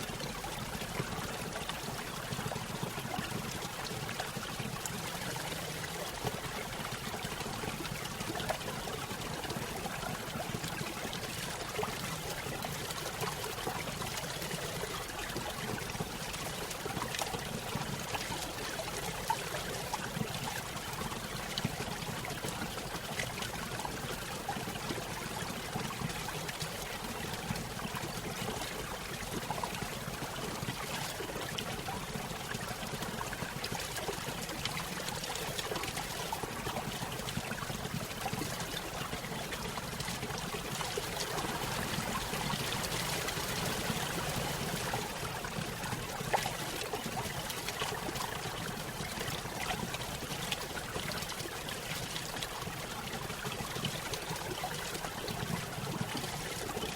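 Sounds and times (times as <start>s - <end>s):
stream trickling and splashing: 0.0s - 56.9s.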